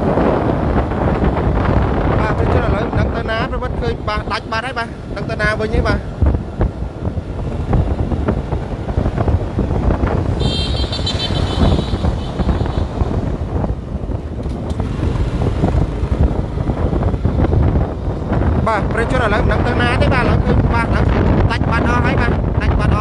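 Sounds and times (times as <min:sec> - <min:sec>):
vehicle rumble: 0:00.0 - 0:23.0
wind buffeting microphone: 0:00.0 - 0:23.0.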